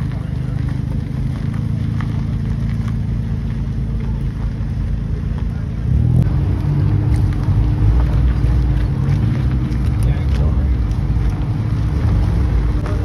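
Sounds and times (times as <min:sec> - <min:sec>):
car engine rumbling: 0:00.0 - 0:13.0
loud car exhaust: 0:00.0 - 0:13.0.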